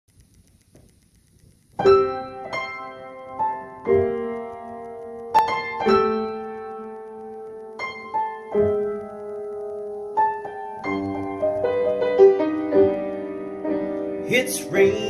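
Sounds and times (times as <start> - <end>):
solo piano chords: 1.8 - 15.0.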